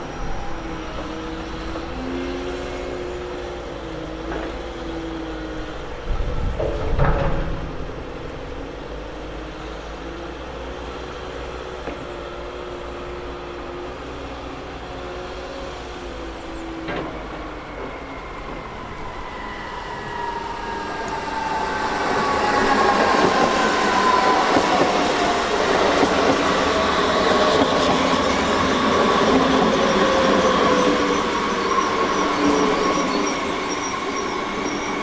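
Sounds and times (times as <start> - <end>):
electric train hum: 0.0 - 35.0
train rumble: 0.0 - 35.0.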